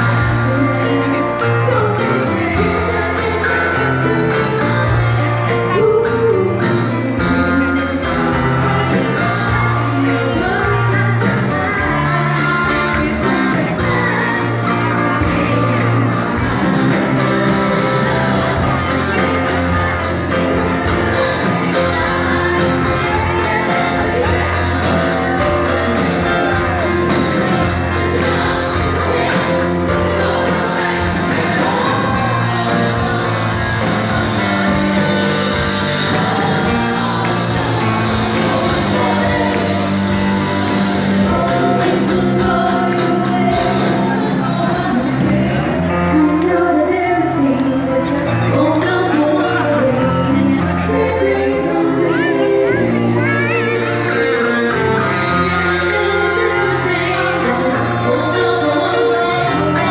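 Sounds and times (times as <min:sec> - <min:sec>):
live pop band playing: 0:00.0 - 0:59.9
women singing: 0:00.0 - 0:59.9.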